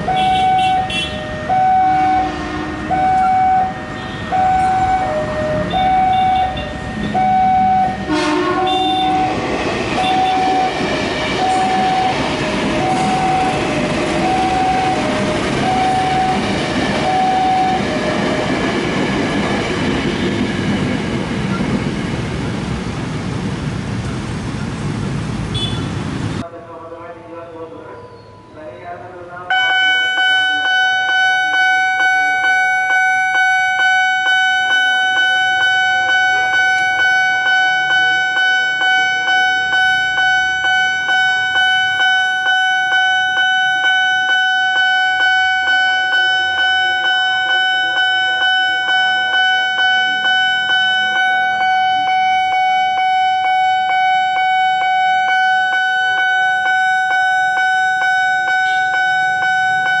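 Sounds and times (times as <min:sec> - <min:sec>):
level-crossing warning alarm: 0:00.0 - 0:22.0, 0:29.4 - 1:00.0.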